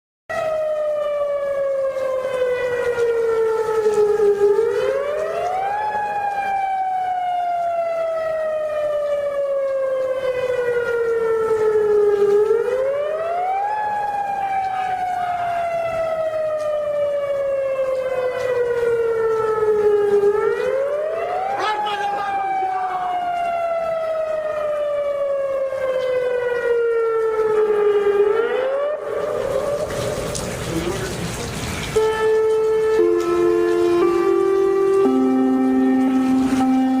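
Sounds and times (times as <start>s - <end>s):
emergency warning siren wailing: 0.3s - 37.0s.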